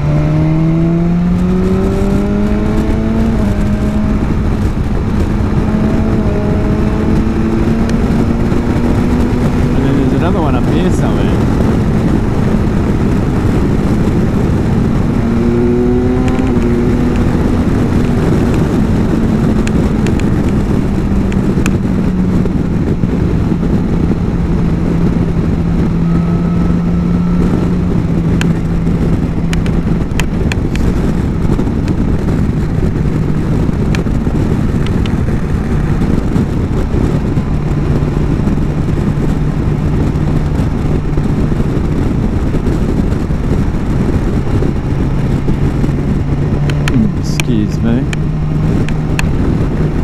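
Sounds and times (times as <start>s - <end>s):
motorcycle engine cruising: 0.0s - 50.0s
wind rush on microphone: 0.0s - 50.0s.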